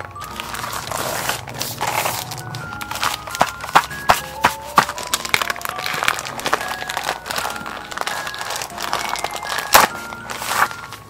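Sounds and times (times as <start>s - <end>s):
plastic packaging crinkling: 0.0s - 11.0s
soft background music: 0.0s - 11.0s.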